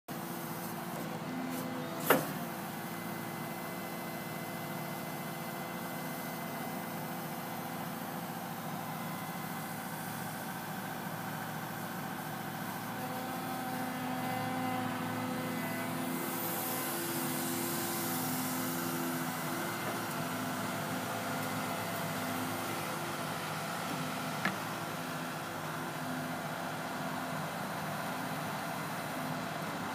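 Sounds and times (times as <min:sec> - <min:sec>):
excavator diesel engine running: 0:00.1 - 0:29.9.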